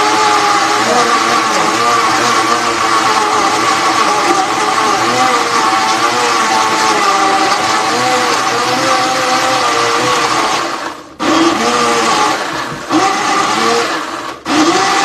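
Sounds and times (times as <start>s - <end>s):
small blender running: 0.0s - 15.0s.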